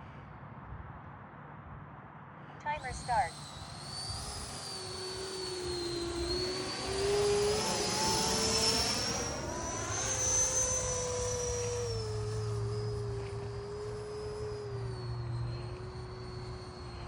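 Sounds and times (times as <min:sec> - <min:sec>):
model jet fans whining: 0:02.6 - 0:17.0.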